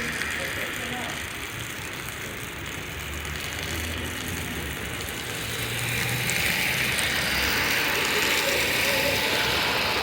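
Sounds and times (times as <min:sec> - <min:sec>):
rain falling: 0:00.0 - 0:10.0
vehicle engine running: 0:00.0 - 0:10.0.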